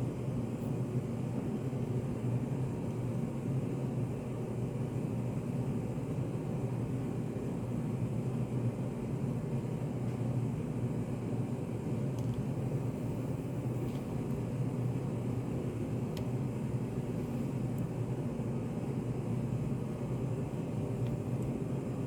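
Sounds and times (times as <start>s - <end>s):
room ambience hum: 0.0s - 22.0s.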